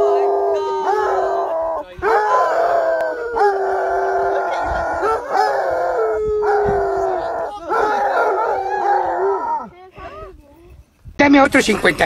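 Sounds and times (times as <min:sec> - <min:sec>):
dog howling: 0:00.0 - 0:09.8.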